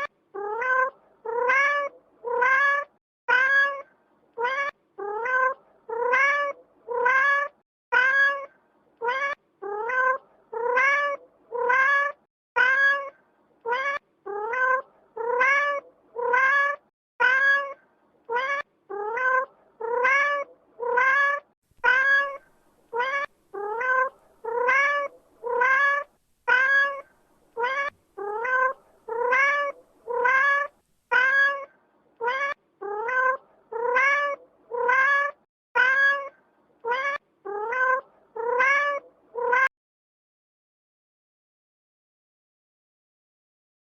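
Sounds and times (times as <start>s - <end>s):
cat meowing: 0.0s - 39.7s.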